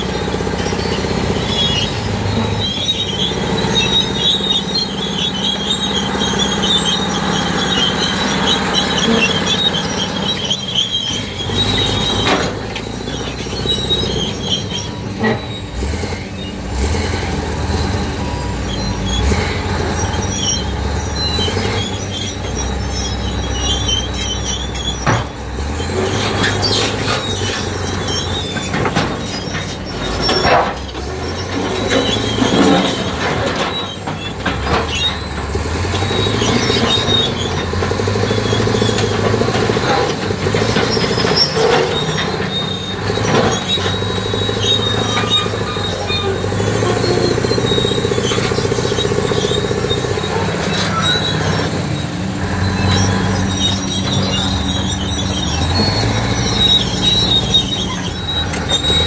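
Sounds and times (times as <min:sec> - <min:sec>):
diesel engines under load: 0:00.0 - 0:59.0
high metallic squealing: 0:00.0 - 0:59.0.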